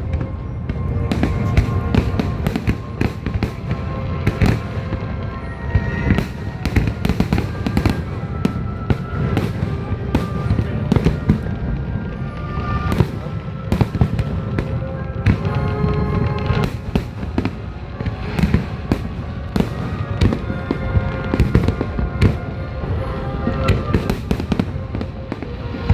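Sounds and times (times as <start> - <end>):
fireworks bangs and crackles: 0.0 - 25.9
music playing: 0.0 - 25.9.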